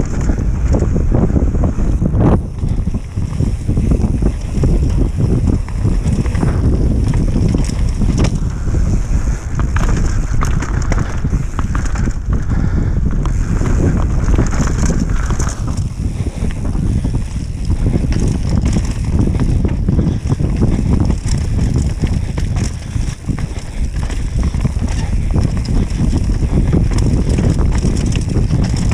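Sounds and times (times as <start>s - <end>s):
bike rattling and clicking: 0.0s - 28.9s
bike tyres on dirt: 0.0s - 28.9s
wind rumble on microphone: 0.0s - 28.9s.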